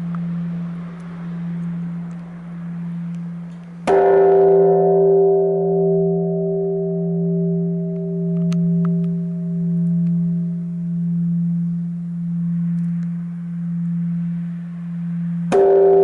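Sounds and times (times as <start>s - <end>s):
temple bell ringing: 0.0s - 16.0s.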